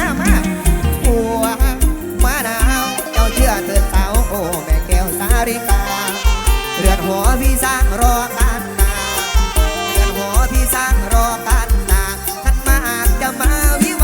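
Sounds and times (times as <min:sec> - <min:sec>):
kick drum beat: 0:00.0 - 0:14.0
lead melody with bending notes: 0:00.0 - 0:14.0.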